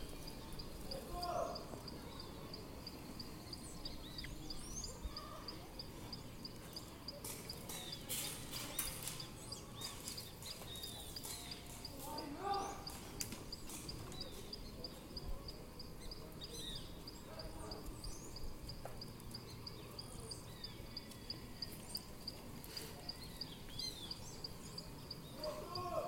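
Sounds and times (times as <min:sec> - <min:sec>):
steady high repeating chirp: 0:00.0 - 0:26.0.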